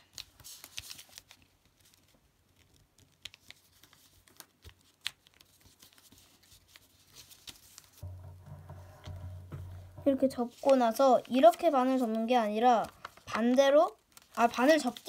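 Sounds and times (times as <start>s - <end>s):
paper rustling and folding: 0.0s - 8.1s, 8.7s - 15.0s.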